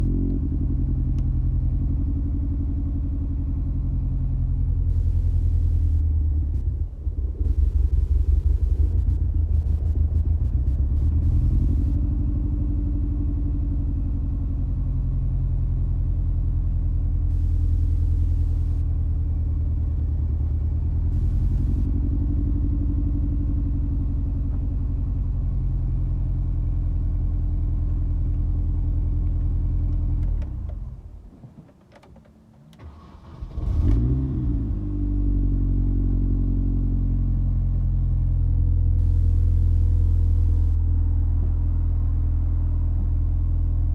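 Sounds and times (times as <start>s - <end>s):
car engine idling unevenly: 0.0s - 33.9s, 38.1s - 43.9s.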